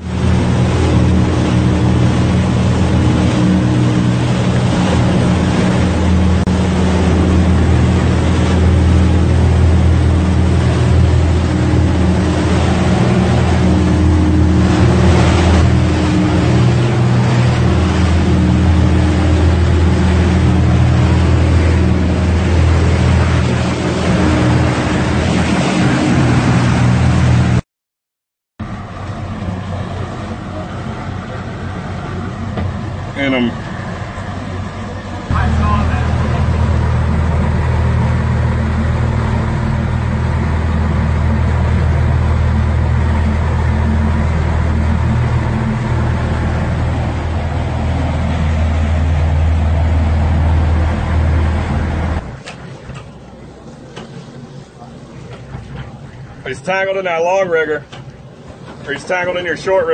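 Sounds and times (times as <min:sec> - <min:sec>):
boat engine droning: 0:00.0 - 0:27.6, 0:28.6 - 0:59.9
water rushing along hull: 0:00.0 - 0:27.6, 0:28.6 - 0:59.9.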